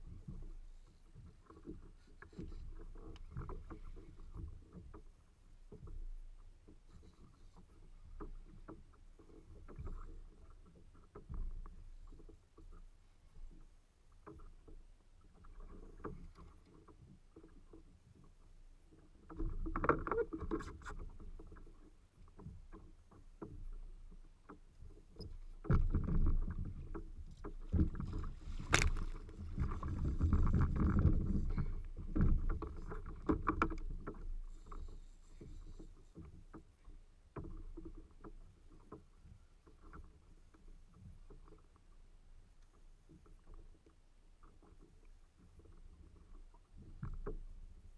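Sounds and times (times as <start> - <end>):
water sloshing against kayak hull: 0.0 - 47.9.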